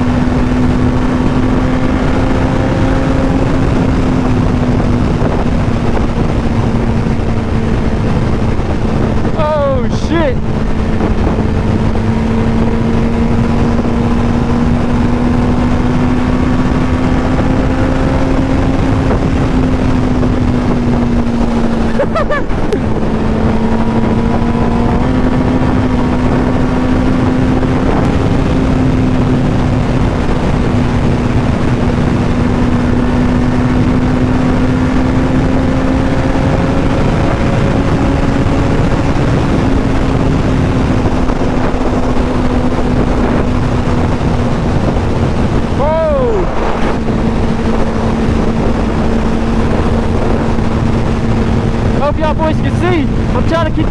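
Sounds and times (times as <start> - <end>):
motorcycle engine cruising: 0.0 - 53.9
wind rushing over microphone: 0.0 - 53.9.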